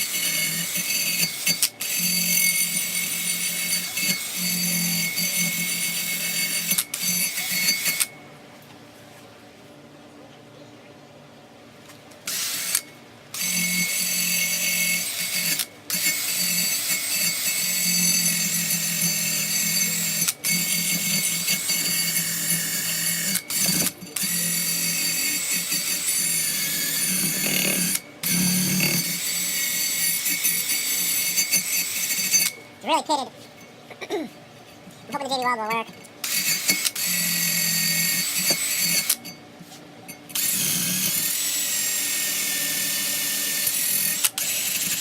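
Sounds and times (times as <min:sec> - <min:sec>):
rotary power tool on metal: 0:00.0 - 0:08.2, 0:12.2 - 0:32.8, 0:36.1 - 0:39.4, 0:40.1 - 0:45.0.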